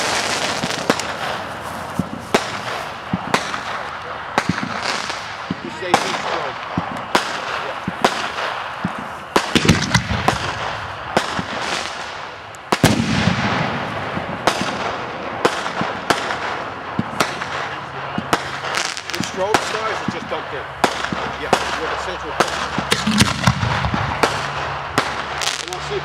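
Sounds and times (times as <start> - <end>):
deep fireworks booms: 0.0 - 26.0
fireworks bangs: 0.0 - 26.0.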